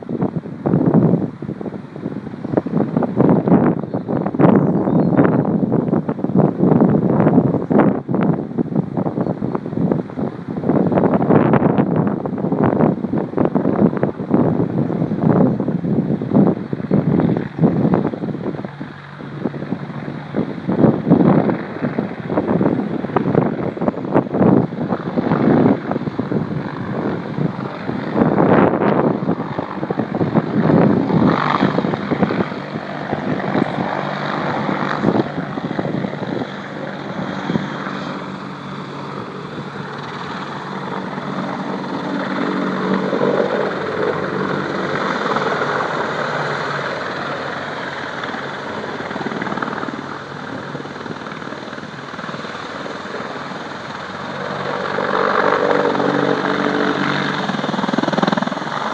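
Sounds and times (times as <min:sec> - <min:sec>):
helicopter engine humming: 0:00.0 - 0:58.9
wind buffeting microphone: 0:00.0 - 0:58.9.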